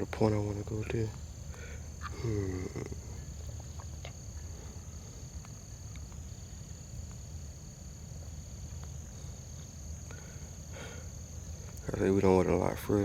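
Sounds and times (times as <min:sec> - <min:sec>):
insects trilling: 0:00.0 - 0:13.0
low outdoor rumble: 0:00.0 - 0:13.0.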